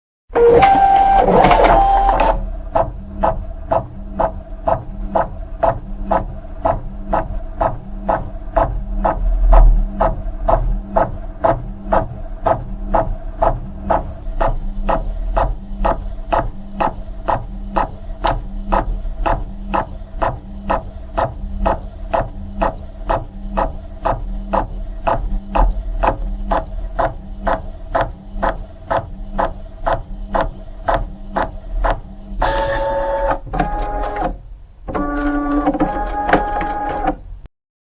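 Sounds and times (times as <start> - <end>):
photocopier running: 0.4 - 9.2, 9.9 - 37.2
whirring with steady tones: 0.4 - 37.5.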